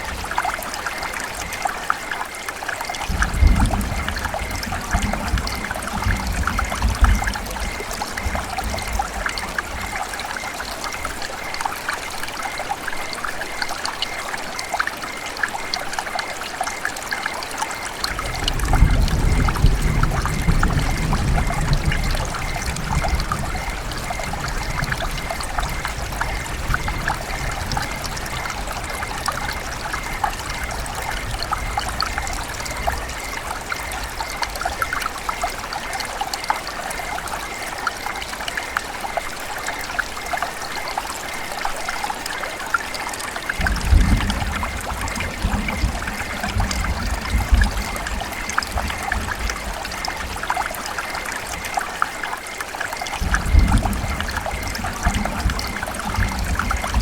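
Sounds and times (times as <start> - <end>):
river water over rocks: 0.0 - 57.0.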